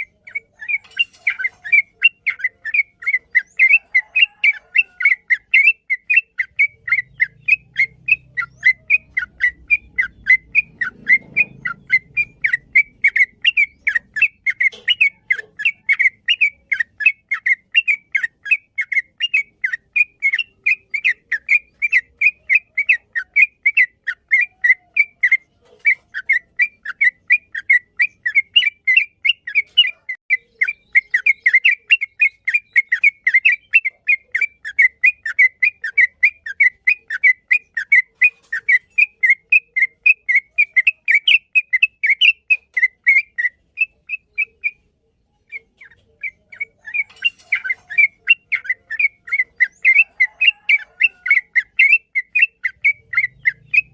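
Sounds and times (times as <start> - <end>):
bird singing whistled chirps: 0.0 - 53.9.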